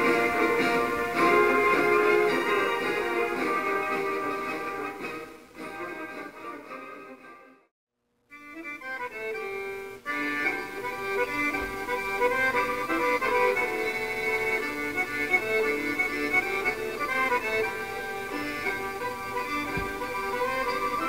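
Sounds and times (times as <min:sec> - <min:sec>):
accordion playing: 0:00.0 - 0:07.6, 0:08.3 - 0:21.0.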